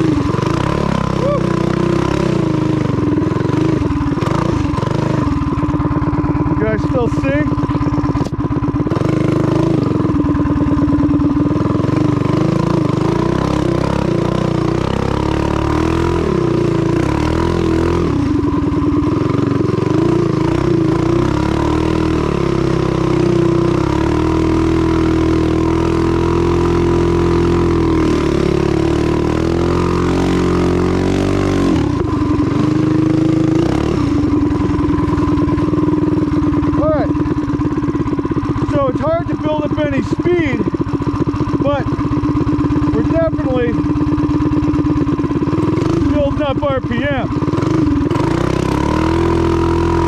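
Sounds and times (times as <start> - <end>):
mini bike engine revving: 0.0 - 50.0.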